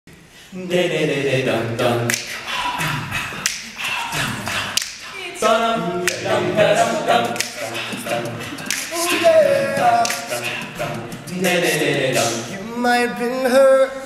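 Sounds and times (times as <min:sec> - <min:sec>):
male a cappella group singing: 0:00.5 - 0:14.0.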